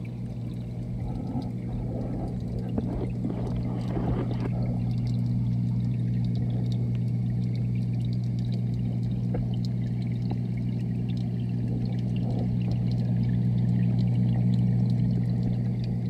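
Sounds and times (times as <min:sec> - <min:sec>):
low hum underwater: 0:00.0 - 0:16.0
rushing water underwater: 0:00.0 - 0:16.0.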